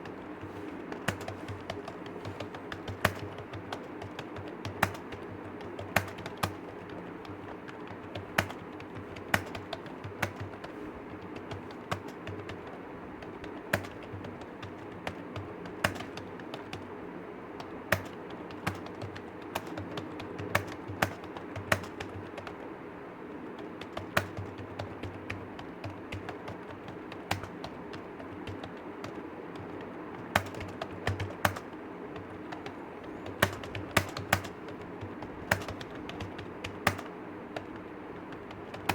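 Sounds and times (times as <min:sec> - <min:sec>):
keyboard key clicks: 0:00.0 - 0:16.9, 0:17.6 - 0:22.7, 0:23.5 - 0:38.9
steady low hum: 0:00.0 - 0:38.9.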